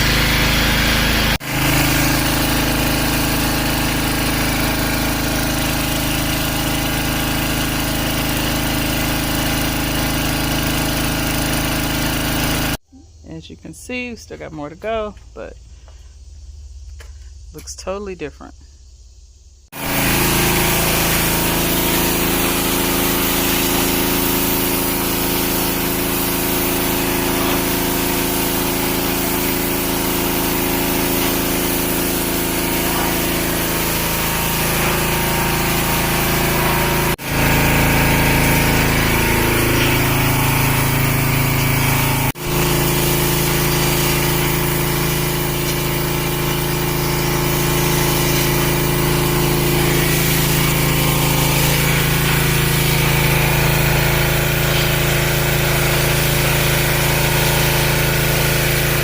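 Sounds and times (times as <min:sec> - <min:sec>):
pressure washer engine running: 0:00.0 - 0:16.0, 0:19.7 - 0:59.0.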